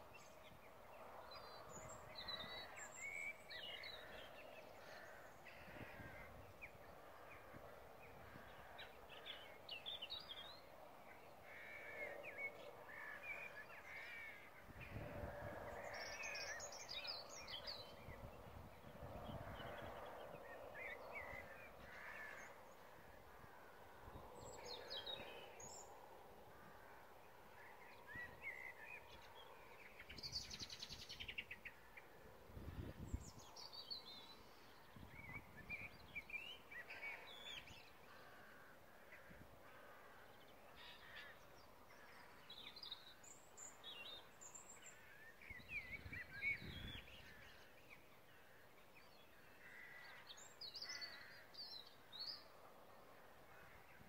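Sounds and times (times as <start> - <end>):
faint birdsong and calls: 0.0 - 54.0.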